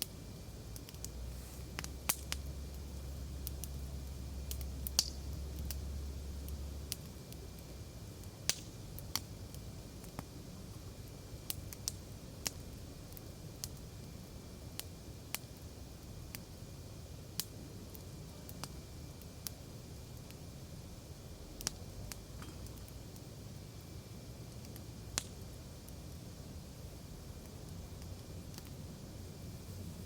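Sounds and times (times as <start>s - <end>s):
wood snapping and popping in fire: 0.0s - 29.8s
hiss of flames: 0.0s - 30.0s.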